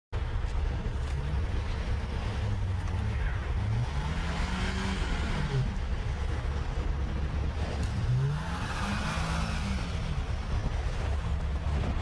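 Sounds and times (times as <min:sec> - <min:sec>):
vehicle engine rumbling: 0:00.2 - 0:12.0.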